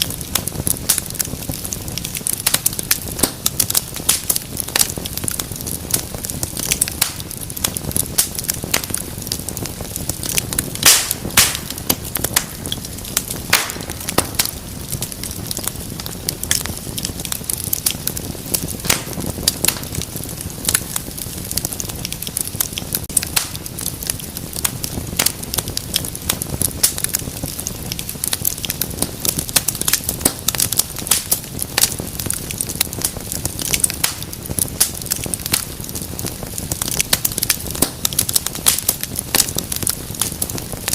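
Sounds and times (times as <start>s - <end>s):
fire snaps: 0.0s - 40.9s
low rumble of flames: 0.0s - 40.9s
wood fire crackling: 0.0s - 40.9s.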